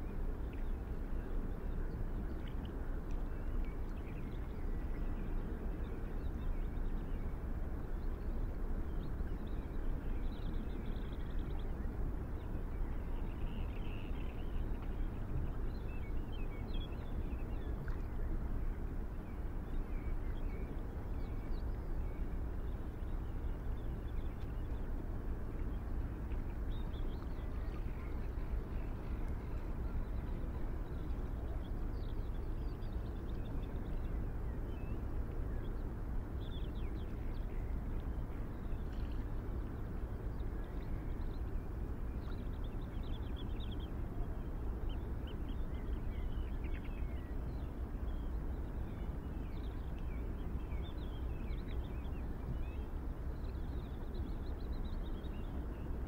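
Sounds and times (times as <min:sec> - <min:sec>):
low outdoor rumble: 0:00.0 - 0:56.0.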